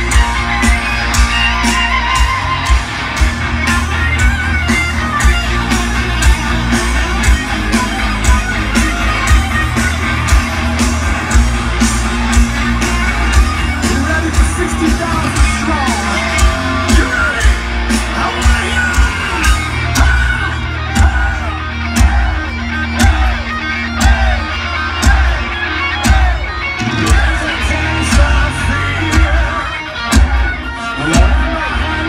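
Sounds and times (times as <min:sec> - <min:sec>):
bending lead guitar line: 0:00.0 - 0:32.0
distorted electric guitars: 0:00.0 - 0:32.0
drum beat: 0:00.0 - 0:32.0.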